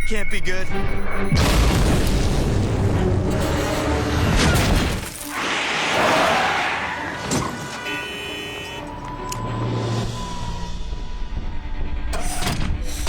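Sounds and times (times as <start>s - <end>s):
dramatic music: 0.7s - 13.0s.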